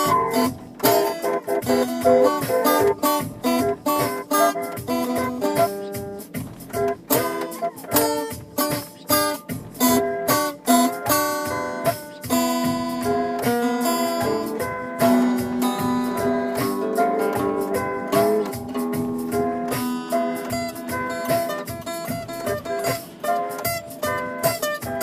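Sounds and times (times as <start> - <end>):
acoustic guitar plucking: 0.0 - 25.0.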